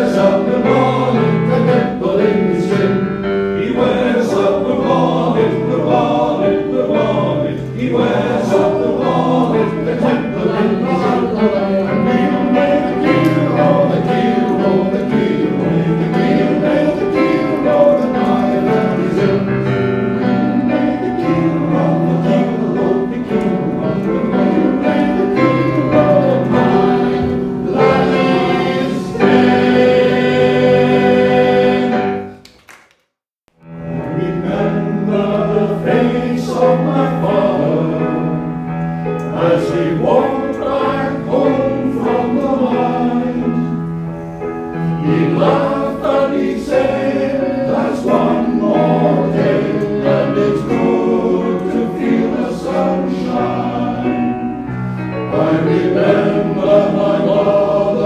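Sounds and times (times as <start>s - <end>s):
male choir singing: 0.0s - 32.4s, 34.0s - 58.0s.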